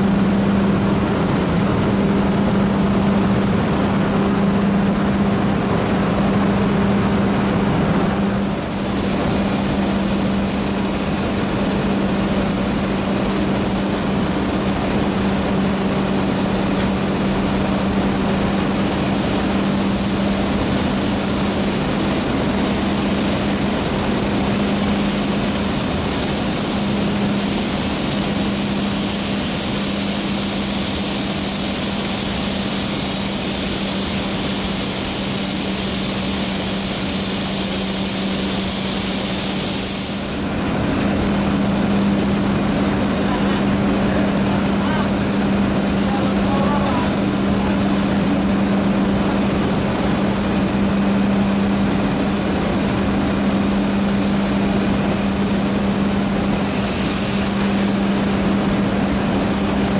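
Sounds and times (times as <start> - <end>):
steam hissing through hose: 0.0 - 59.9.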